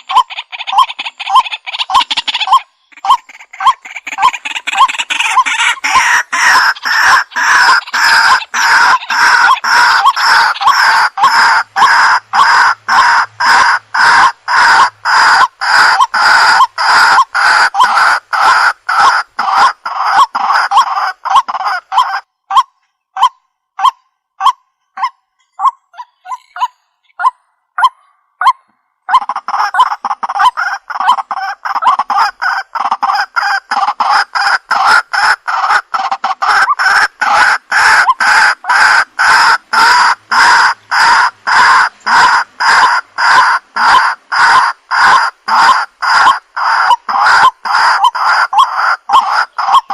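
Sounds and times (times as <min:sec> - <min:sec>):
waterhen calling: 0:00.0 - 0:49.9.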